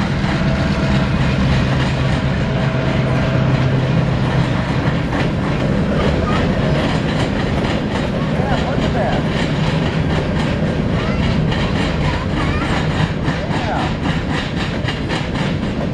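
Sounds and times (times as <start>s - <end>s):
freight train rumbling past: 0.0s - 15.9s
wheels clacking over rail joints: 0.0s - 15.9s.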